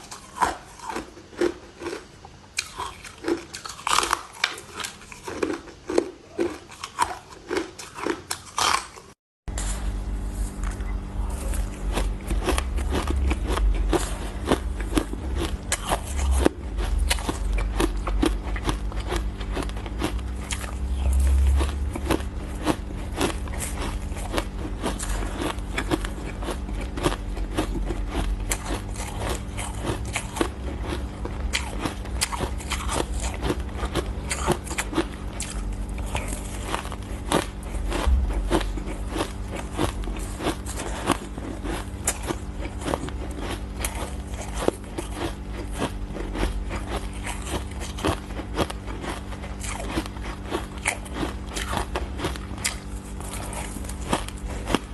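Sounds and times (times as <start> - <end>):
ice crunching being chewed: 0.0 - 54.9.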